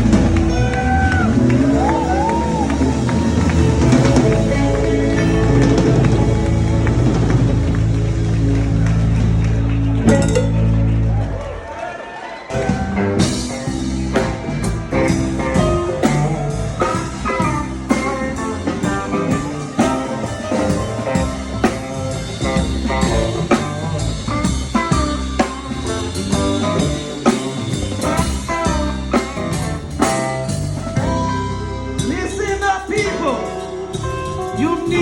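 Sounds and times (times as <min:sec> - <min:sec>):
drum kit beat: 0:00.0 - 0:11.2, 0:12.5 - 0:35.0
guitar playing: 0:00.0 - 0:11.4, 0:12.6 - 0:35.0.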